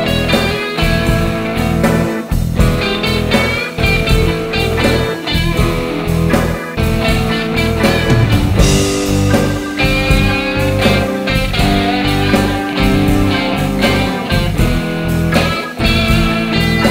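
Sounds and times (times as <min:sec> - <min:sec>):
blues-rock guitar music: 0:00.0 - 0:16.9
steady bass line: 0:00.0 - 0:16.9.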